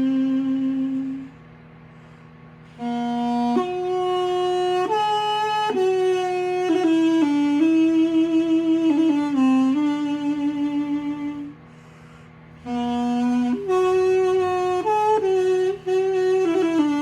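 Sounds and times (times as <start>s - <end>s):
duduk slow melody: 0.0s - 1.4s, 2.8s - 11.5s, 12.7s - 17.0s
microwave oven hum: 0.0s - 17.0s.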